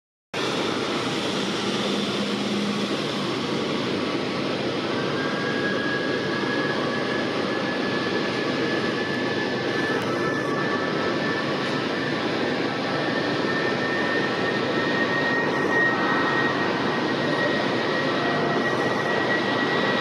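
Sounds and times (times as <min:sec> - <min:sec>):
jet engine roar: 0:00.4 - 0:20.0
thin high whine: 0:00.4 - 0:20.0.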